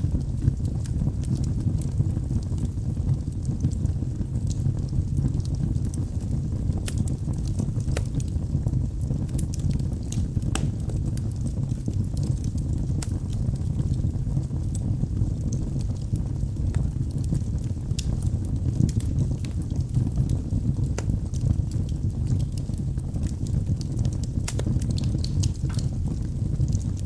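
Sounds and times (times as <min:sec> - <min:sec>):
logs crackling and popping: 0:00.0 - 0:27.0
low roar of flame: 0:00.0 - 0:27.0.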